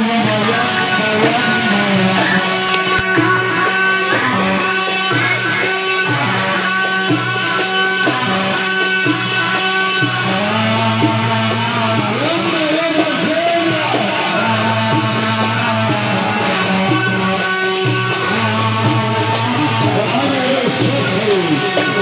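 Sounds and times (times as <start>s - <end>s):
loud amplified music: 0.0s - 22.0s.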